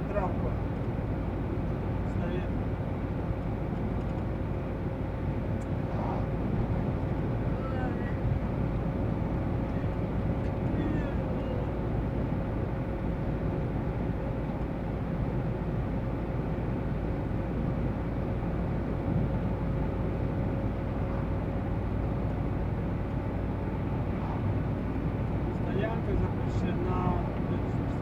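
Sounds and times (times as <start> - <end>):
van engine and road rumble: 0.0 - 28.0.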